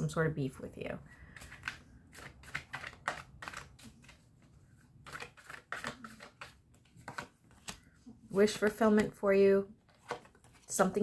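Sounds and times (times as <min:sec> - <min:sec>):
cards being shuffled: 0:01.3 - 0:09.2, 0:09.8 - 0:11.0.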